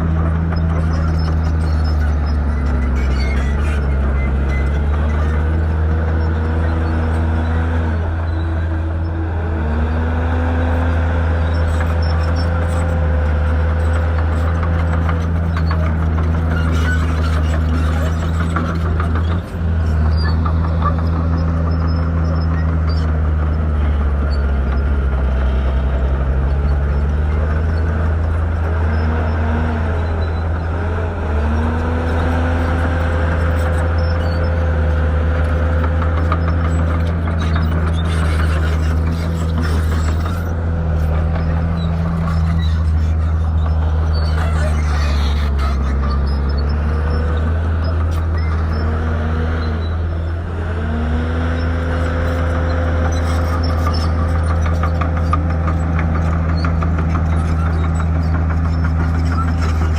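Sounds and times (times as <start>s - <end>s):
bulldozer diesel engine working hard: 0.0s - 59.9s.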